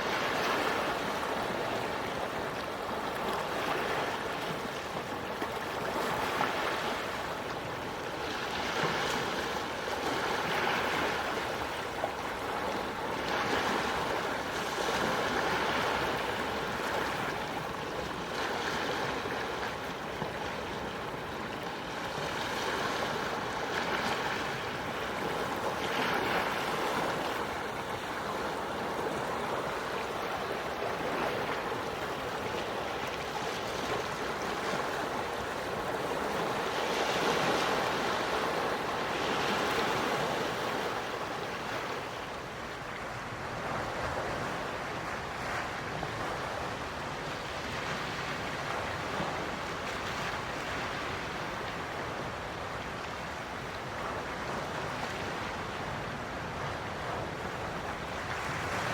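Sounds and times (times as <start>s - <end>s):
small waves washing on shore: 0.0s - 58.9s.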